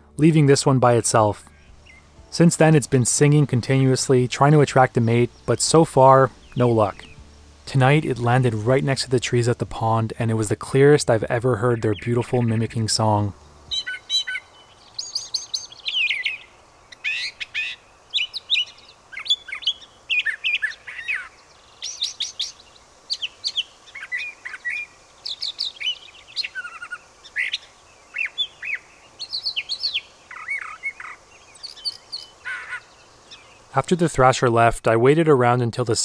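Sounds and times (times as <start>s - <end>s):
bird singing varied phrases: 0.0s - 34.8s.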